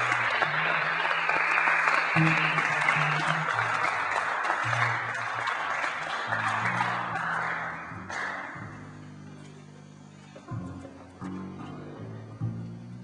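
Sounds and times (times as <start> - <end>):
audience applauding: 0.0 - 11.6
low instrument bass notes: 2.2 - 13.0.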